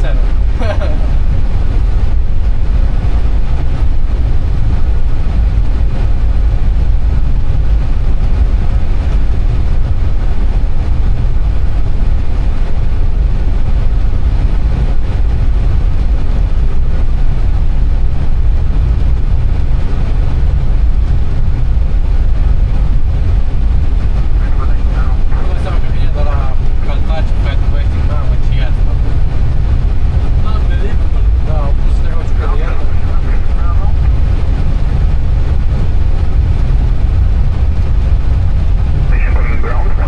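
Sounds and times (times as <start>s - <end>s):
airplane taxiing rumble in cockpit: 0.0s - 40.0s.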